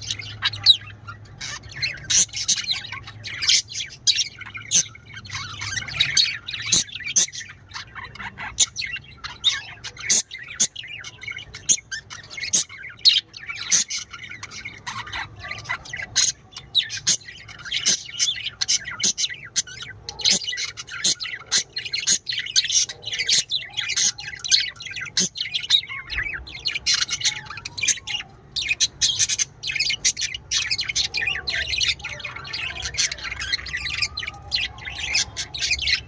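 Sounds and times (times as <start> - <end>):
small birds chirping and chattering: 0.0 - 36.0.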